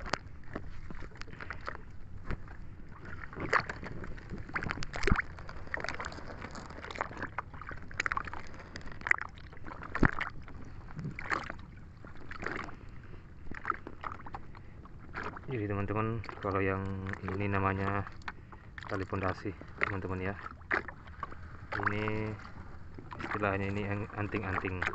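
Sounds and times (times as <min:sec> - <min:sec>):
seawater splashing and sloshing: 0:00.0 - 0:24.9.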